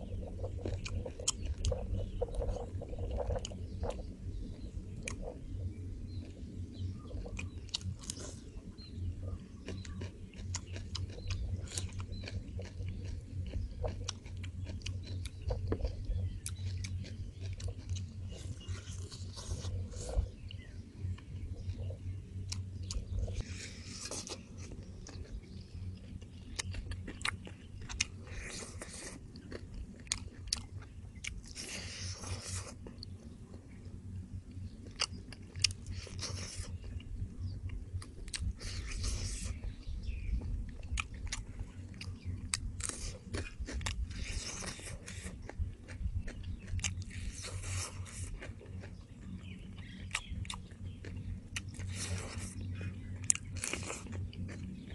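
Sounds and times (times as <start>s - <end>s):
person chewing crunchy food: 0.0s - 54.9s
steady low hum: 0.0s - 54.9s.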